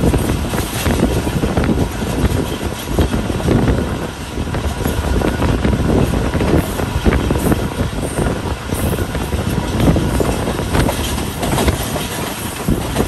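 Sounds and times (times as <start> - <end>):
train carriages rumbling on rails: 0.0 - 13.0.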